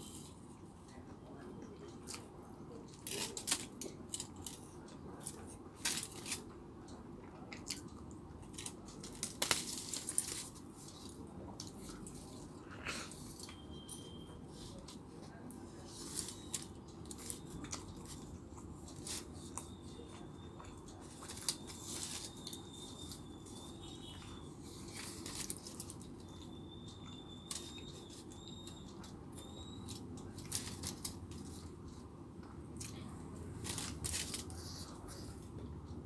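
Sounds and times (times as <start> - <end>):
crispy coating crackles: 0.0 - 35.5
crunching and chewing: 1.7 - 35.6.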